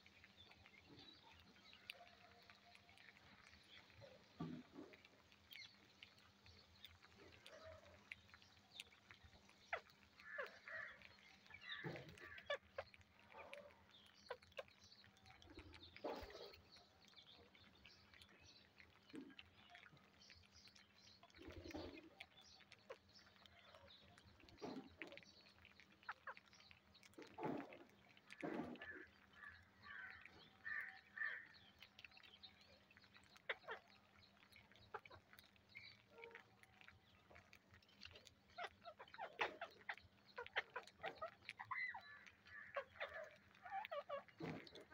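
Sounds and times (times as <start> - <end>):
beaks pecking on concrete: 0.0 - 44.9
parakeet chirps and calls: 5.5 - 44.9.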